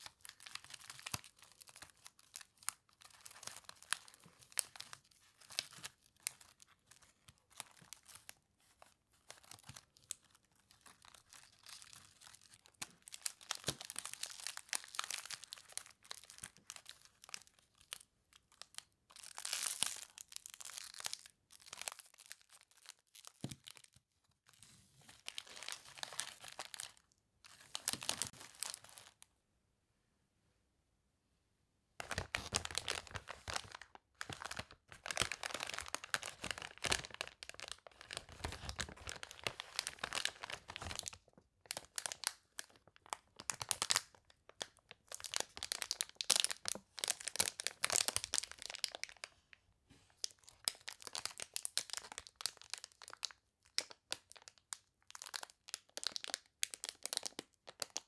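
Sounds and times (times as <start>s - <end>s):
cellophane bag crinkling: 0.0s - 24.0s, 25.1s - 29.2s, 32.0s - 49.3s, 50.2s - 58.0s.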